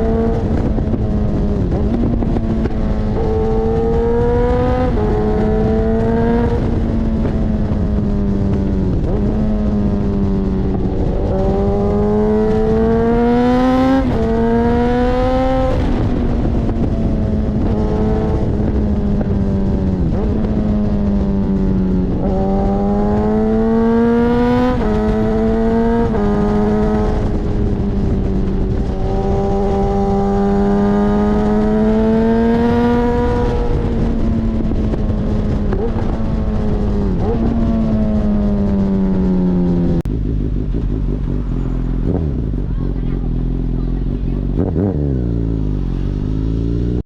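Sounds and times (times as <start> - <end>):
motorcycle engine shifting gears: 0.0 - 47.0.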